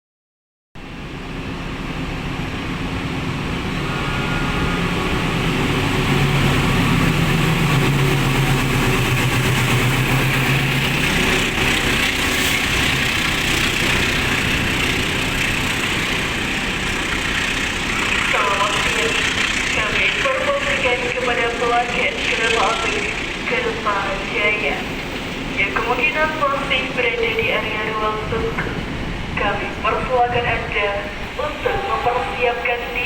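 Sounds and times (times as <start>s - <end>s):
diesel locomotive engine hum: 0.8s - 33.0s.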